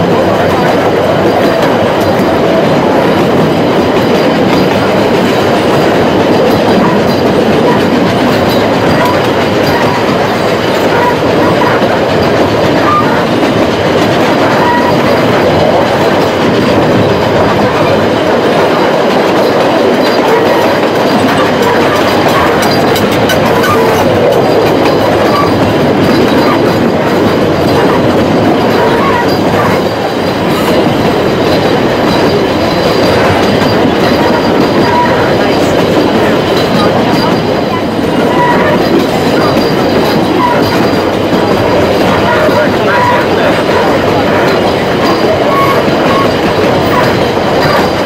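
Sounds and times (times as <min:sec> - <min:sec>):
train wheels clattering on rails: 0:00.0 - 0:48.0.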